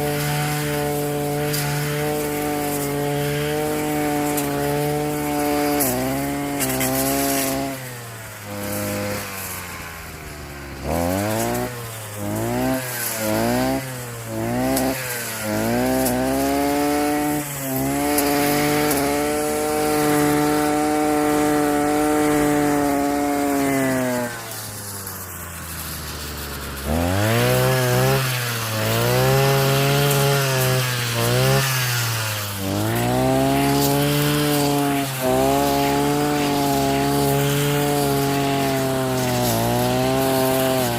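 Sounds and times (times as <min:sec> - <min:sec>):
weed whacker engine revving: 0:00.0 - 0:40.9.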